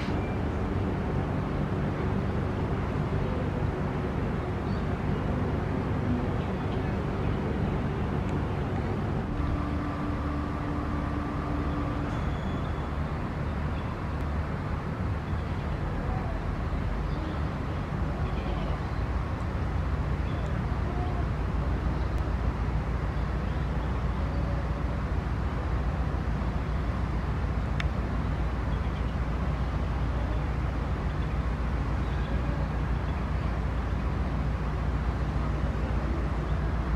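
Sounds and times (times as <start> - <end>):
low rumble: 0.0 - 36.9
steady hum: 0.0 - 36.9.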